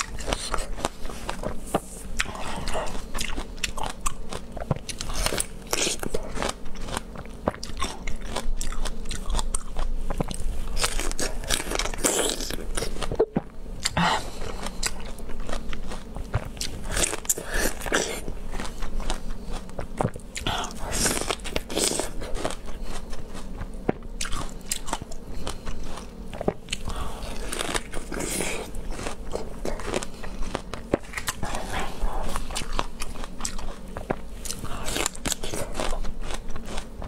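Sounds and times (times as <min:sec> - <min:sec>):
person crunching and chewing fruit: 0:00.0 - 0:37.0.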